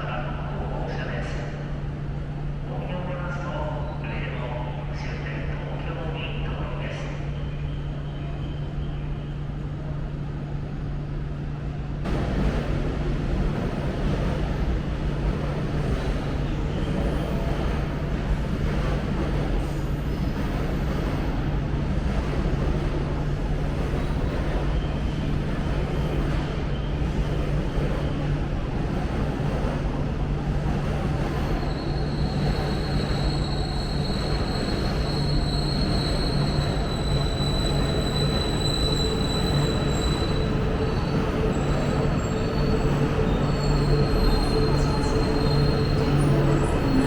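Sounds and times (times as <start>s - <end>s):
train rolling noise: 0.0s - 47.0s.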